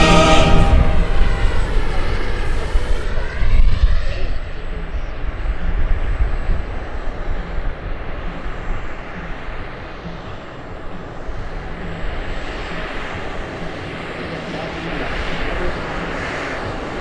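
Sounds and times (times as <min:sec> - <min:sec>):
model helicopter turbine and rotor: 0:00.0 - 0:17.0.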